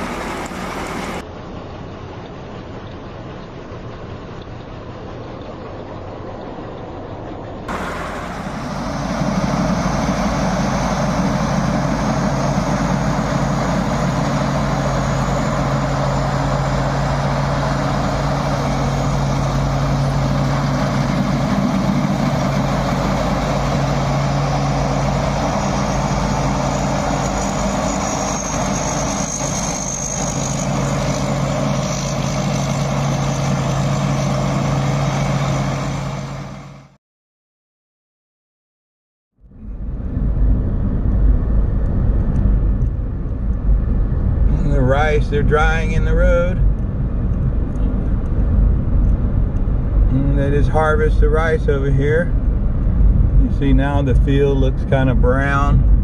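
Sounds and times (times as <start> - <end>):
engine running: 0.0 - 37.0, 39.4 - 56.0.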